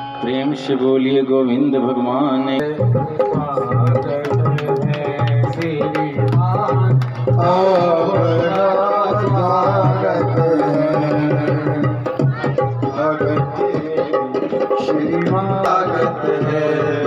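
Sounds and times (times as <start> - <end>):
wavering melody: 0.0 - 17.0
hand drum beat: 2.7 - 17.0.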